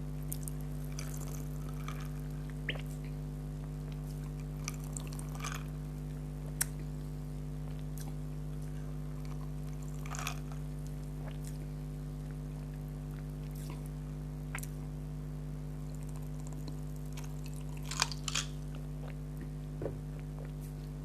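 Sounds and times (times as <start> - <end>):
low electrical hum: 0.0 - 21.0
faint crackles of eating: 0.2 - 14.8, 15.8 - 21.0.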